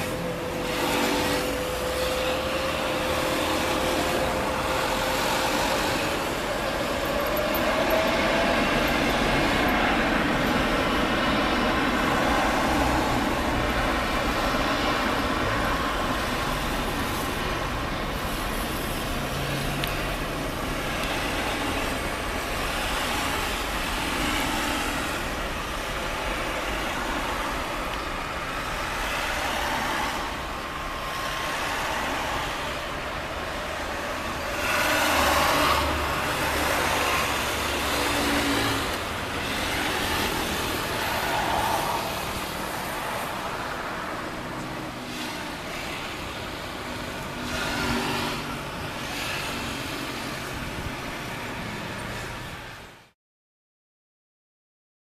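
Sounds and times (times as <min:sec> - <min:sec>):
outdoor engine noise: 0:00.0 - 0:53.1.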